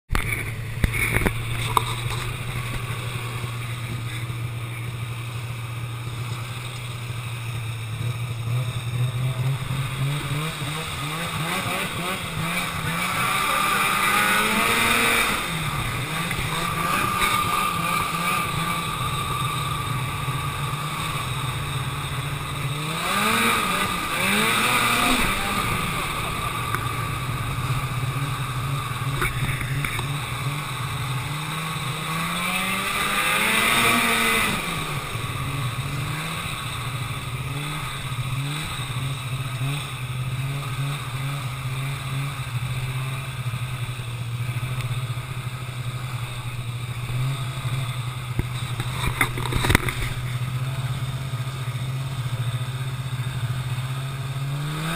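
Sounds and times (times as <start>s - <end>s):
snowmobile engine revving: 0.1s - 54.9s.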